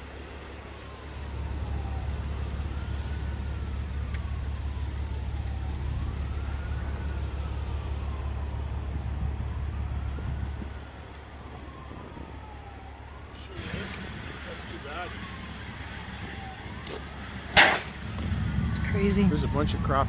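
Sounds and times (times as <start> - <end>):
faint siren wailing: 0.0 - 20.0.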